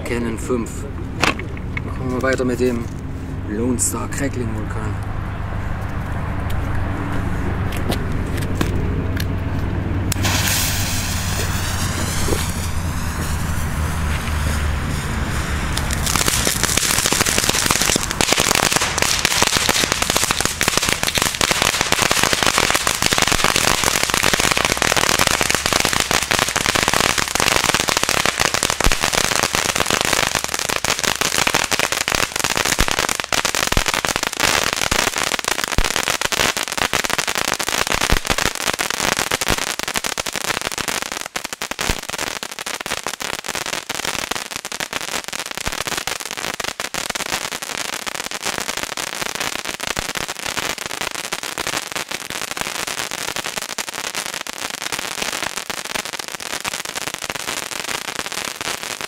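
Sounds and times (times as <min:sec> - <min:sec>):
firework fountain hissing and crackling: 0:10.1 - 0:59.0.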